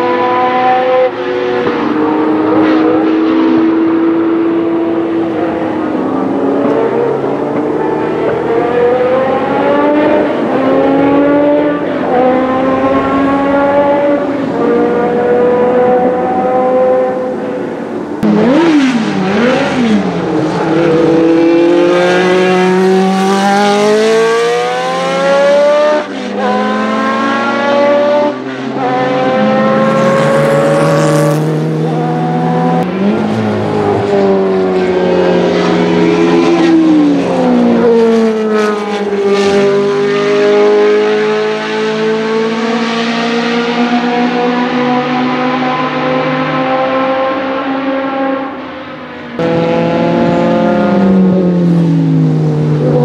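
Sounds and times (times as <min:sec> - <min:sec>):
racing car engine accelerating: 0:00.0 - 0:53.0.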